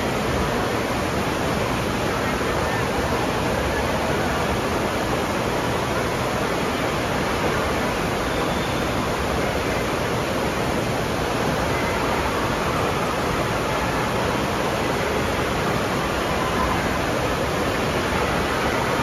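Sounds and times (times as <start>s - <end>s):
water rushing down a slide: 0.0s - 19.0s.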